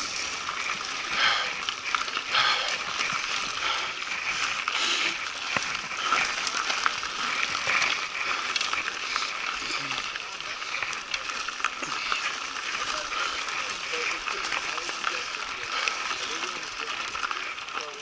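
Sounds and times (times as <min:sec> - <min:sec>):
bike tyres crunching on gravel: 0:00.0 - 0:18.0.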